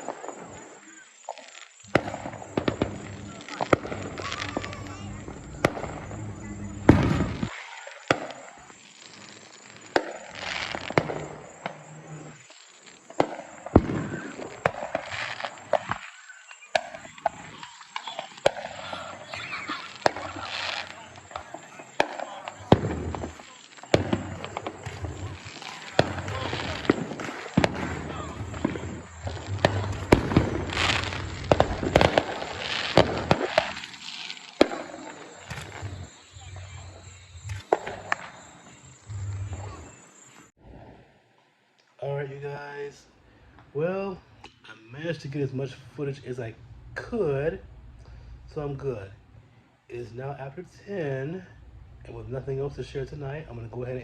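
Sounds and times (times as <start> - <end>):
fireworks banging: 0.0 - 41.1, 43.5 - 54.0
fireworks crackling: 0.0 - 54.0.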